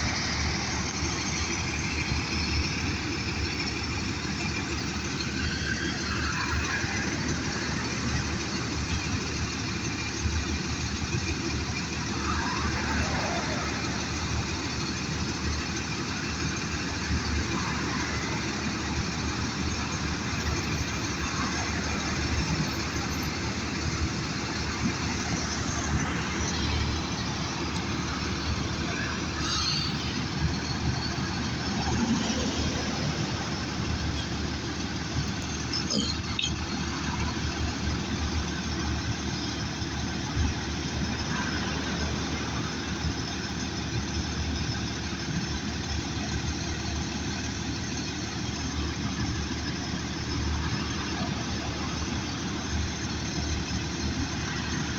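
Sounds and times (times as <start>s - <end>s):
vehicle engine rumbling: 0.0s - 54.9s.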